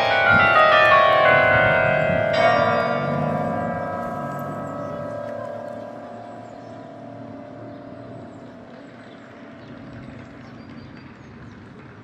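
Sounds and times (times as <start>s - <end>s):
large bells humming: 0.0s - 11.8s
distant road traffic: 0.0s - 12.0s.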